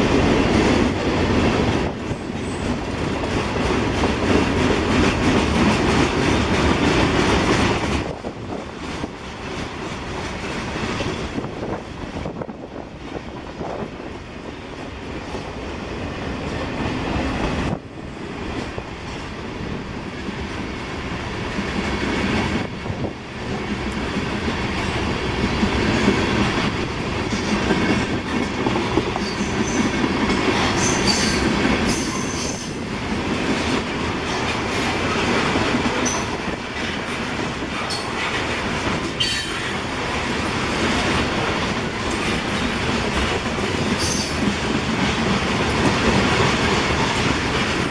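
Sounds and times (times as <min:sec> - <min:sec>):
freight train rolling on rails: 0:00.0 - 0:47.9.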